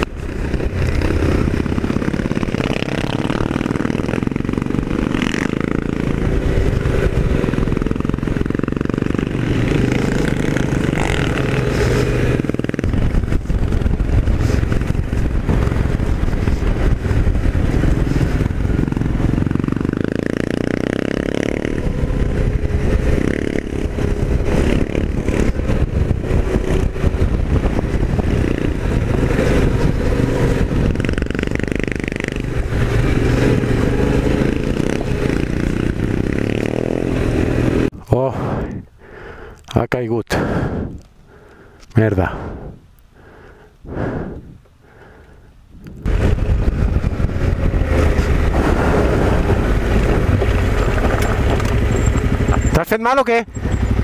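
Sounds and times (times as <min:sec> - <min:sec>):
motorcycle engine revving: 0:00.0 - 0:37.9, 0:45.8 - 0:54.0.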